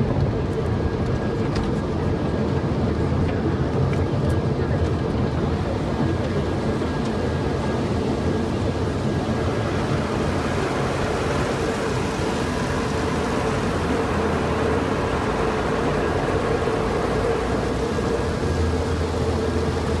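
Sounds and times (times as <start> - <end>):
car wash machinery rushing: 0.0 - 20.0.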